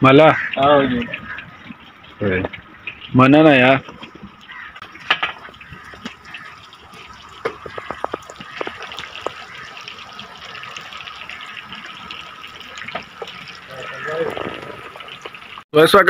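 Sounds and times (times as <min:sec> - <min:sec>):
fish deep-frying in oil: 0:00.0 - 0:15.6
oil crackling and popping: 0:00.3 - 0:15.6.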